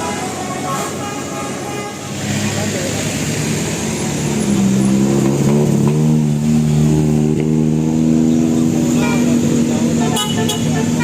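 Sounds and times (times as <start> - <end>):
bus engine revving: 0.0 - 11.0.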